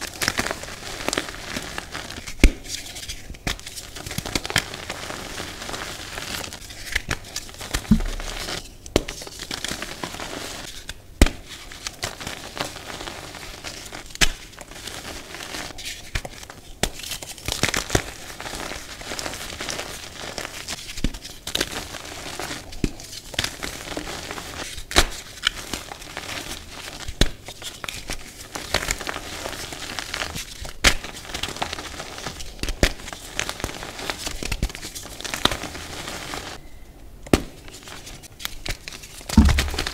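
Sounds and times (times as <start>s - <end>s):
dry chalk crunching and crackling: 0.1s - 36.6s, 37.6s - 39.9s.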